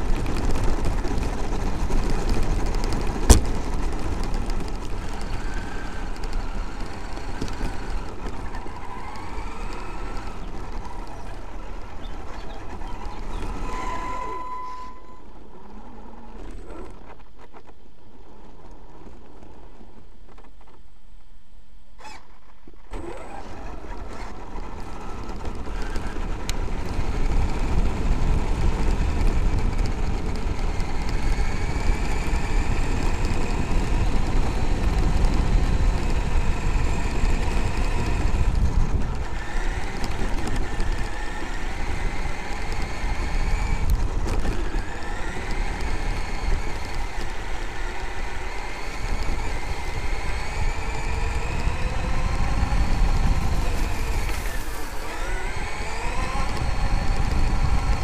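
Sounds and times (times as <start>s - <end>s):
tyres rumbling over gravel: 0.0s - 15.0s, 23.0s - 58.0s
electric motor and gears whining: 0.0s - 17.7s, 22.9s - 58.0s.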